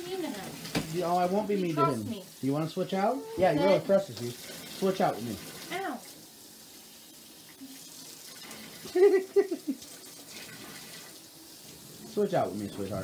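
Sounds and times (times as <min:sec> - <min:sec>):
faucet running into bathtub: 0:00.0 - 0:13.0.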